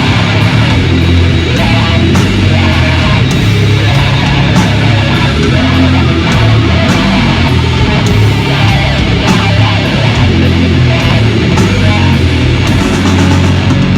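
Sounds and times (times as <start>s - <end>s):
slow low guitar and bass riff: 0.0s - 13.9s.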